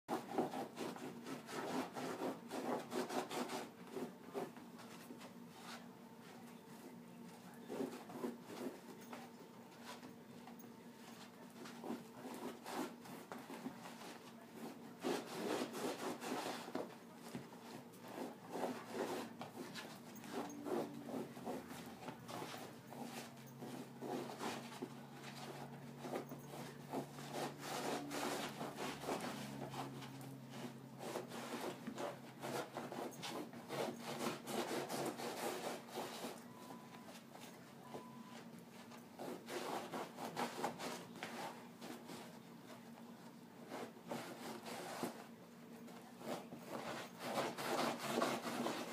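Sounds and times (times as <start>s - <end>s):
dog scratching a blanket: 0.1s - 37.2s, 38.8s - 42.4s, 43.6s - 45.3s, 45.9s - 48.9s.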